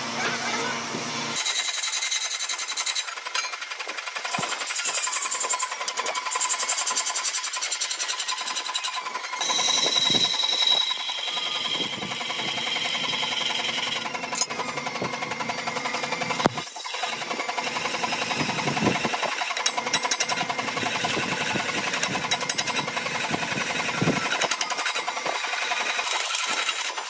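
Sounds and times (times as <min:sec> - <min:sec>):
power tool pulsing rattle: 0:00.0 - 0:27.0.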